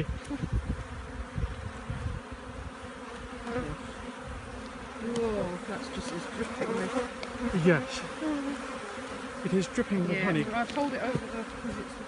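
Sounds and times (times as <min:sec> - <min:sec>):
bee buzz falling in pitch: 0:00.0 - 0:12.0
bee colony humming: 0:00.0 - 0:12.0.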